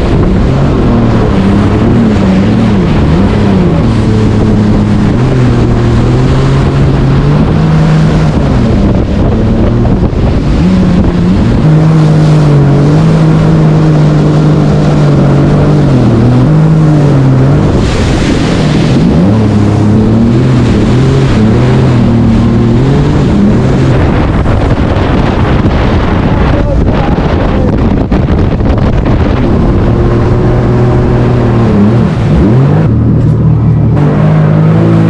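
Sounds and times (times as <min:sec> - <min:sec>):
jet ski engine: 0:00.0 - 0:35.0.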